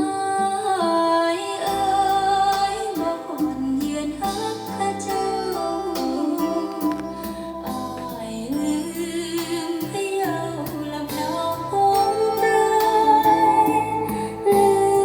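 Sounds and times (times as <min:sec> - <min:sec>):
plucked strings: 0:00.0 - 0:15.0
song over loudspeakers: 0:00.0 - 0:15.0.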